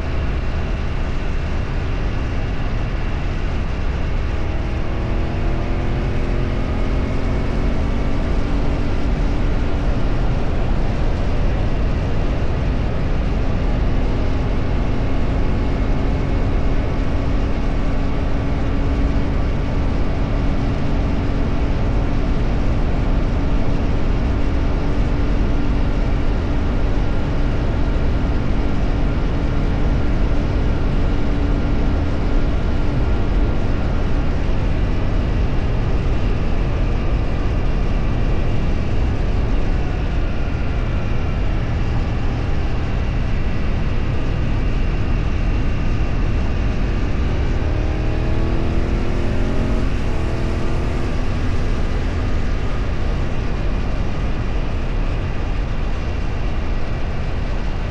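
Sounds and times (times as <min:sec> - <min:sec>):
vehicle engine hum: 0:00.0 - 0:57.9
wind and road noise: 0:00.0 - 0:57.9.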